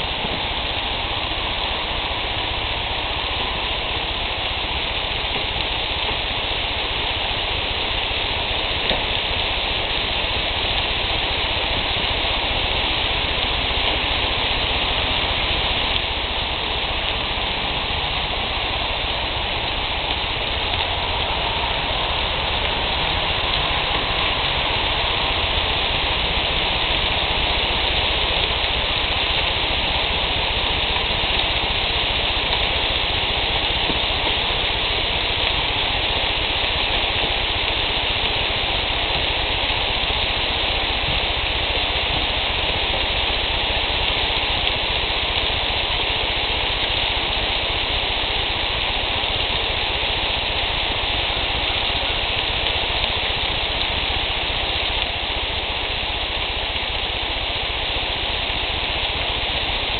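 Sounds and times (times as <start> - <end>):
meat sizzling on a grill: 0.0 - 59.9.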